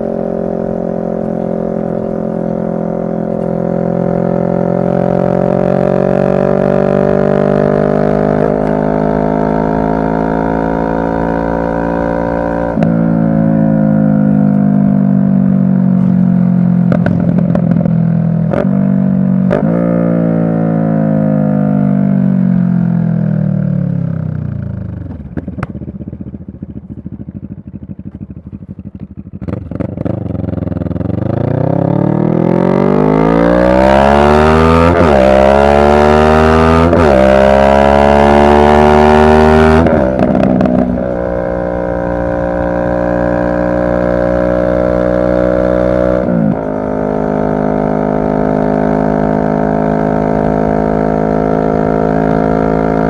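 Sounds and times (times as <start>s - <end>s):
motorcycle engine: 0.0s - 53.0s.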